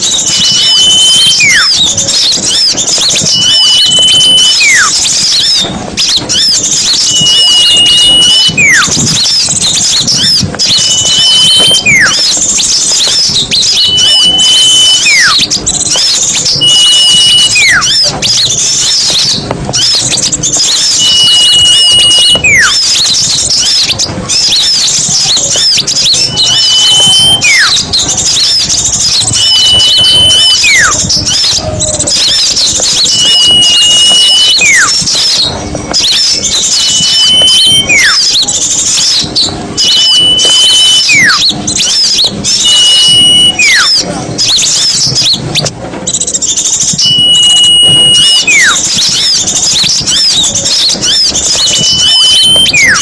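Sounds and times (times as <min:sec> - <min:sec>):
downward sliding whistle: 0:00.0 - 0:45.7, 0:46.8 - 0:53.0
songbirds chirping chorus: 0:00.0 - 0:53.0.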